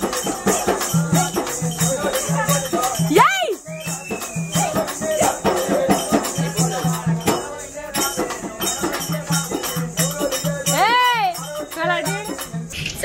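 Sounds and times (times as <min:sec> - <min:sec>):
crowd voices: 0:00.0 - 0:13.0
drum beaten rapidly: 0:00.0 - 0:13.0
rattling jingle percussion: 0:00.0 - 0:13.0.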